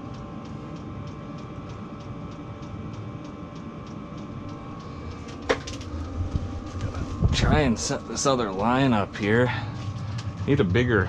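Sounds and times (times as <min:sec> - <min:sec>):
heater fan hum: 0:00.0 - 0:11.0.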